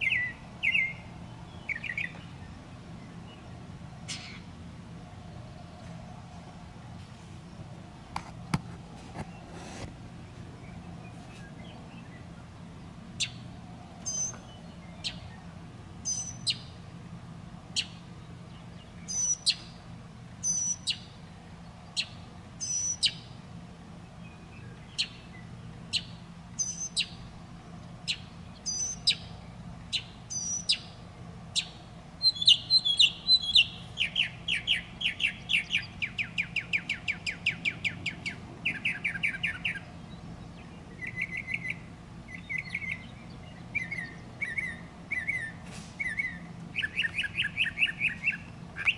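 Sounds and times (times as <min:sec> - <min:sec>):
bird chirping: 0:00.0 - 0:04.5, 0:10.2 - 0:16.8, 0:17.7 - 0:19.8, 0:20.4 - 0:23.4, 0:24.0 - 0:48.9.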